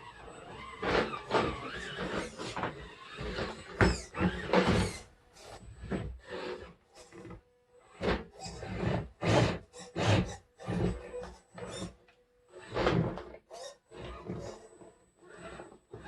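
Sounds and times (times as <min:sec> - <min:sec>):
toy truck motor whirring: 0:00.0 - 0:16.0.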